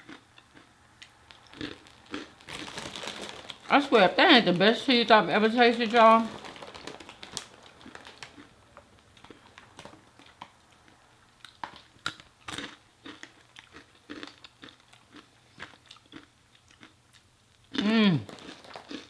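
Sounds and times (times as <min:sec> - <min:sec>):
person chewing crunchy chips: 0:00.0 - 0:03.7, 0:06.2 - 0:19.0.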